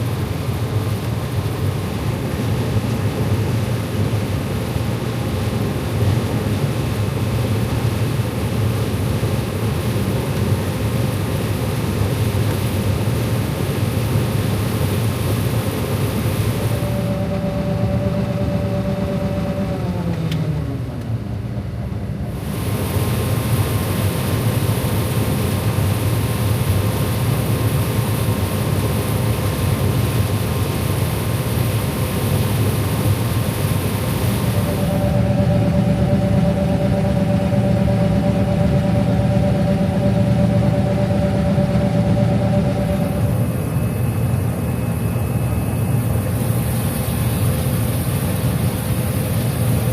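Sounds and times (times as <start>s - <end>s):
combine harvester running: 0.0s - 49.9s.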